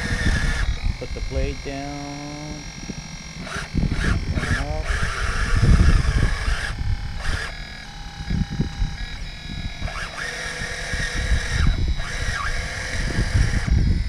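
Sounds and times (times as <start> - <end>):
electric motors whining: 0.0 - 14.0.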